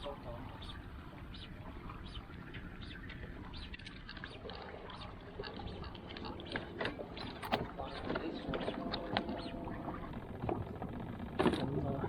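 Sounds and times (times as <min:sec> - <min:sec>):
fishing boat on water: 0:00.0 - 0:12.0.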